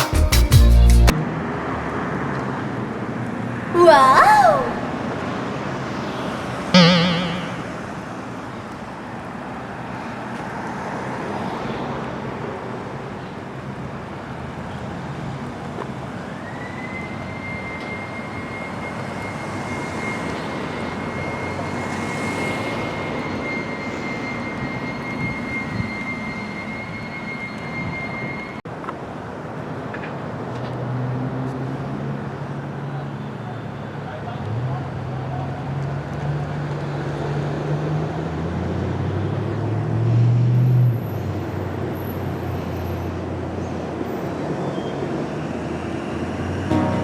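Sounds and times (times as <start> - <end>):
street traffic noise: 0.1 - 47.0.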